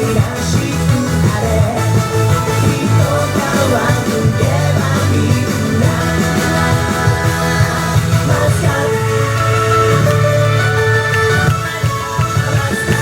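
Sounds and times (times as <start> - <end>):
pop-rock song with singing: 0.0 - 13.0.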